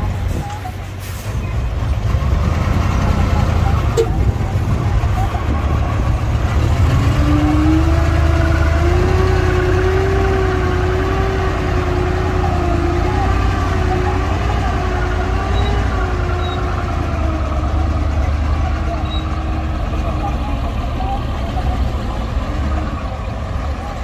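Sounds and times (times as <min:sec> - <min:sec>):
heavy machinery diesel engines rumbling: 0:00.0 - 0:24.0.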